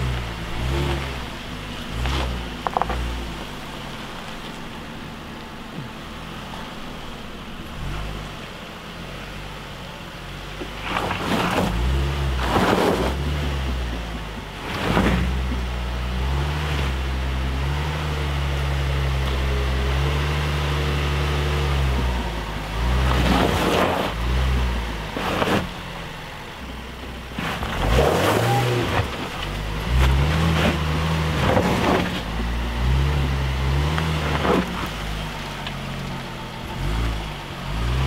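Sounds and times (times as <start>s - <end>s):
suv engine revving: 0.0s - 38.0s
tyres on gravel: 0.0s - 38.0s.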